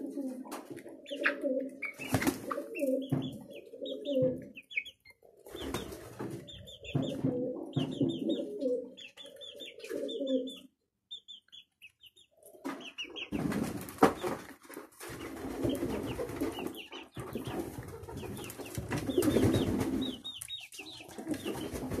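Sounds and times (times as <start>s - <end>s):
pigeons cooing: 0.0s - 10.7s, 12.1s - 13.6s, 15.1s - 22.0s.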